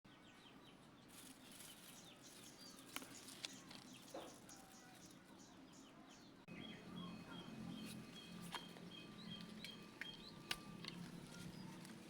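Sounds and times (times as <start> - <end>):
faint birds chirping: 0.1 - 12.0.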